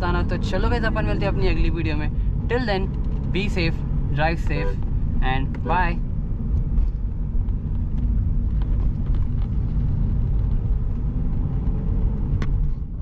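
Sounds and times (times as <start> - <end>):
diesel engine exhaust rumble: 0.0 - 13.0.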